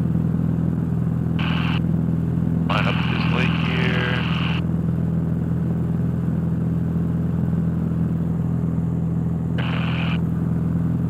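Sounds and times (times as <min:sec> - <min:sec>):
propeller plane engine drone: 0:00.0 - 0:11.0.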